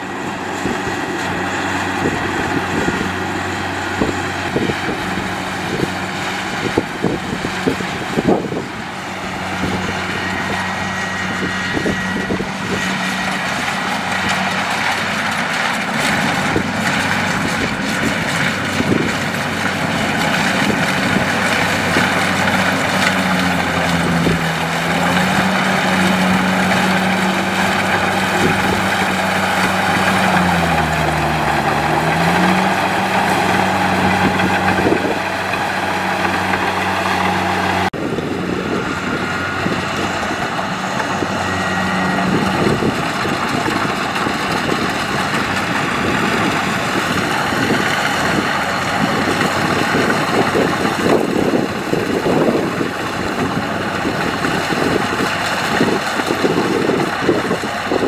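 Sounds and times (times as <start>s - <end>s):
combine harvester diesel engine running: 0.0s - 58.0s.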